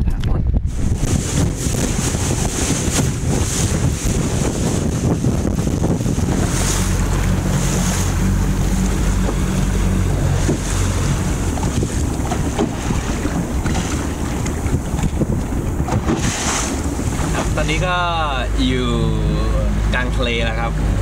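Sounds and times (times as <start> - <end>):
water rushing along hull: 0.0 - 21.0
wind buffeting microphone: 0.0 - 21.0
small boat motor humming: 0.6 - 21.0.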